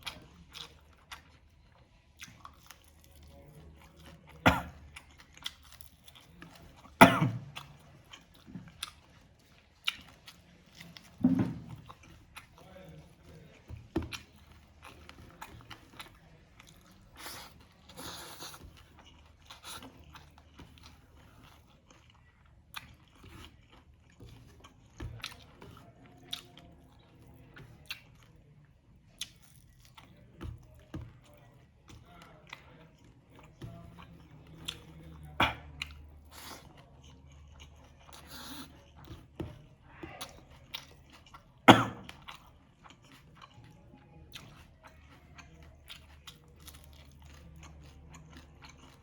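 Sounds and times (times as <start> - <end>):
chewing and crunching: 0.0 - 49.0.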